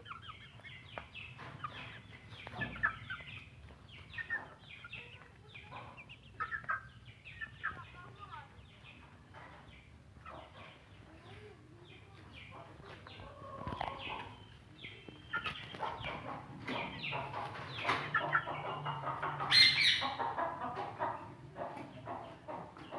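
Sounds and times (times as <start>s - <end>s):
hens clucking: 0.0s - 22.9s.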